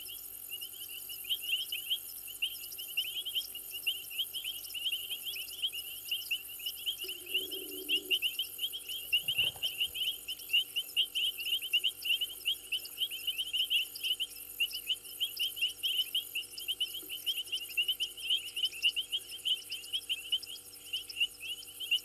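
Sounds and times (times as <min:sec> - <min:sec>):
faint steady hum: 0:00.0 - 0:22.0
high-pitched insect trill: 0:00.0 - 0:22.0
rapid repeated chirps: 0:00.0 - 0:22.0.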